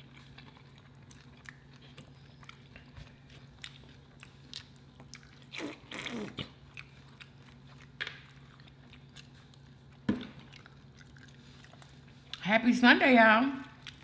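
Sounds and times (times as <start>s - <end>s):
biting and chewing fried food: 0.0s - 12.4s, 13.7s - 14.0s
low steady hum: 0.0s - 14.0s.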